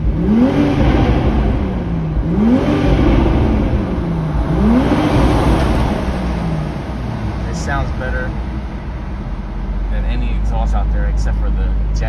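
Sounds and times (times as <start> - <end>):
car engine revving in tunnel: 0.0 - 12.0.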